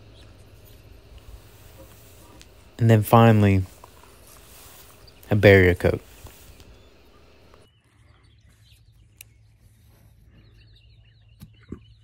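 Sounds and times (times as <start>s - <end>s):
faint bird chirps: 0.0s - 12.0s
low steady hum: 0.0s - 12.0s.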